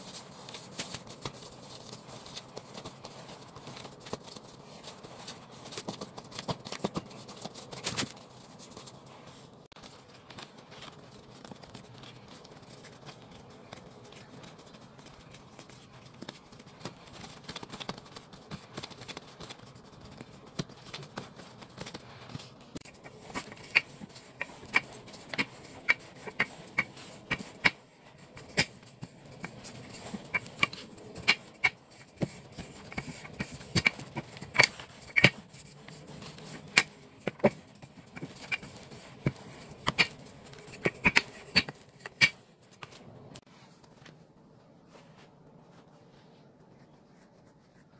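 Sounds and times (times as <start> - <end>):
hands patting dough: 0.0 - 43.5.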